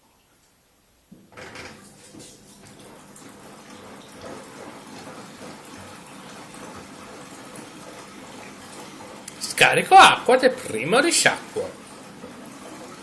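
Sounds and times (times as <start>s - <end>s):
water rushing into washing machine: 1.1s - 13.0s.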